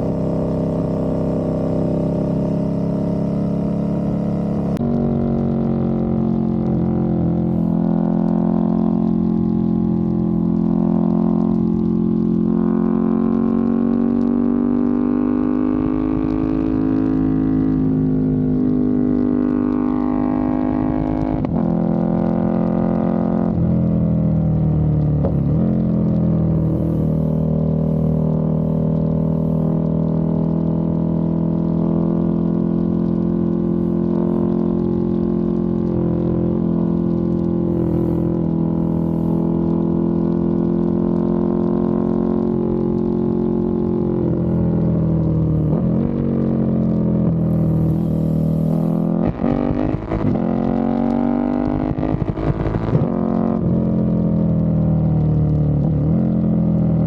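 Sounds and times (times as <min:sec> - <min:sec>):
motorcycle engine riding: 0:00.0 - 0:57.0.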